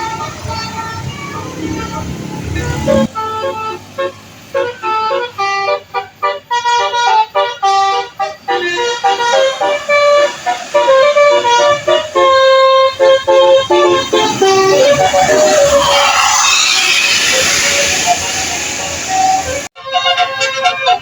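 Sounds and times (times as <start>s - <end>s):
multi-tone air horn melody: 0.0s - 21.0s.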